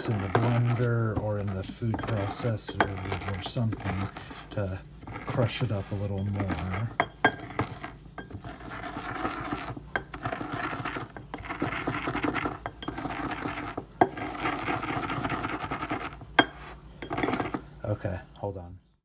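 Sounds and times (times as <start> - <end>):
pestle grinding in mortar: 0.0 - 17.8.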